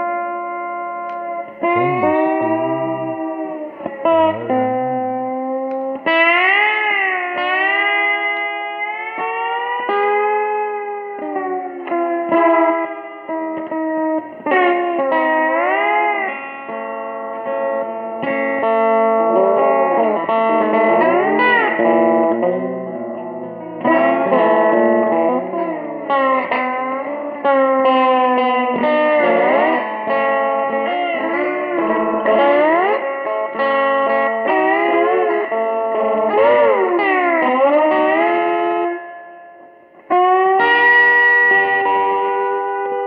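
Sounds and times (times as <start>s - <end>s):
slide electric guitar blues: 0.0s - 43.0s.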